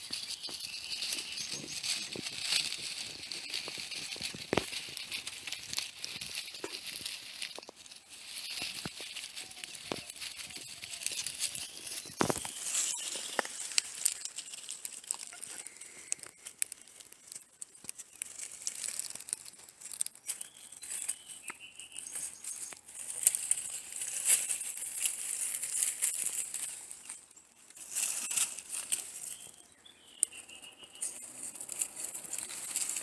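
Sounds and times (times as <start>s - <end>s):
armadillos rustling dry leaves: 0.0s - 33.0s.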